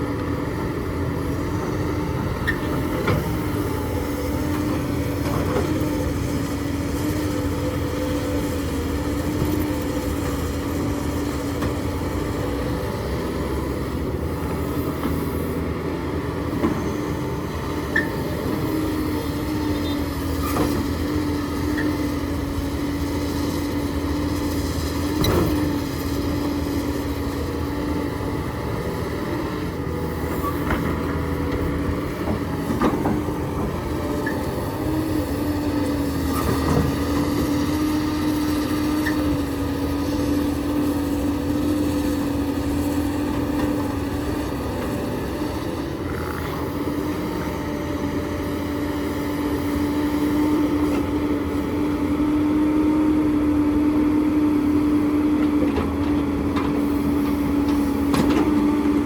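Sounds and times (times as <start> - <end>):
diesel construction machinery drone: 0.0 - 59.0.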